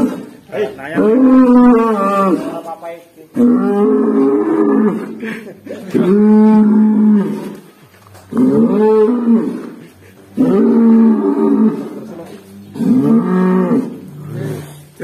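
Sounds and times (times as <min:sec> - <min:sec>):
bull mooing loudly: 0:00.0 - 0:02.7, 0:03.3 - 0:05.3, 0:05.9 - 0:15.0.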